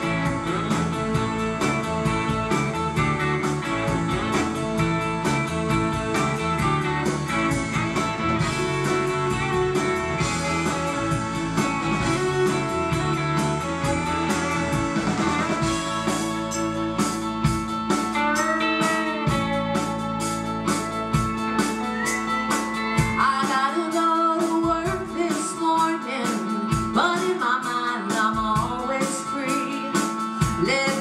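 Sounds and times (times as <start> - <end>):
bending guitar notes: 0.0 - 25.8
live country band playing: 0.0 - 31.0.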